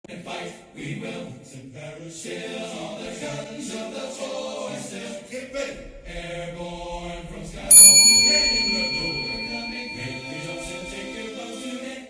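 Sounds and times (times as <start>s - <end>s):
choir singing slow melody: 0.1s - 12.0s.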